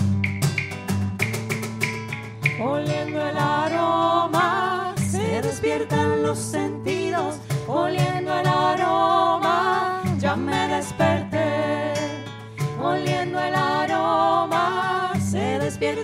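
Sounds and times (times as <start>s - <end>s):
women singing in harmony: 2.6s - 16.0s.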